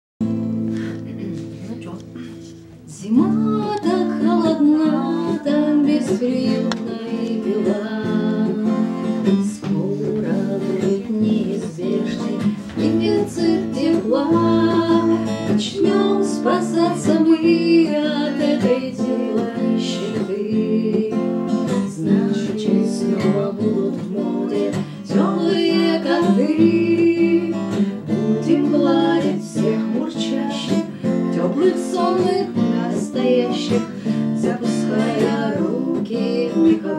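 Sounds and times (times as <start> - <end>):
acoustic guitar strummed: 0.2 - 36.9
woman singing: 2.8 - 36.9.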